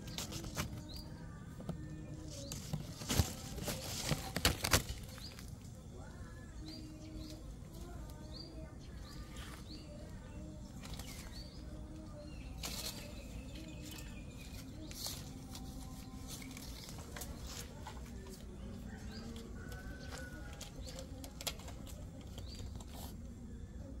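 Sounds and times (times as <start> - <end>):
leaves and twigs rustling: 0.0 - 23.3
small birds chirping: 0.0 - 24.0.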